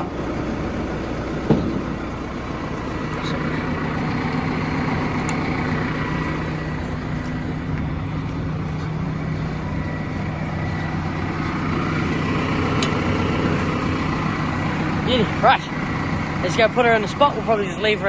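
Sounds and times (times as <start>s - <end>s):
tractor diesel engine humming: 0.0s - 18.0s.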